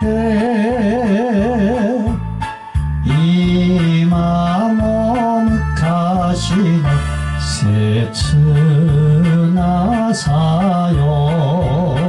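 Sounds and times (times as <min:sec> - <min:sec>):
man singing into microphone: 0:00.0 - 0:02.4, 0:03.0 - 0:12.0
karaoke backing track: 0:00.0 - 0:12.0.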